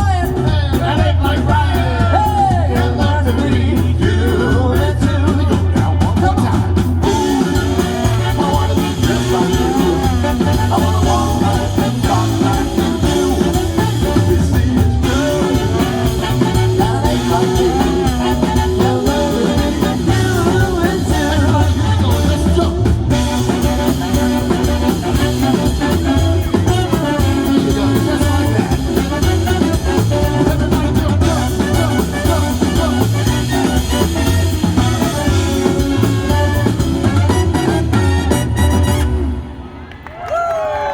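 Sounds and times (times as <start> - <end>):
swing band playing: 0.0 - 39.8.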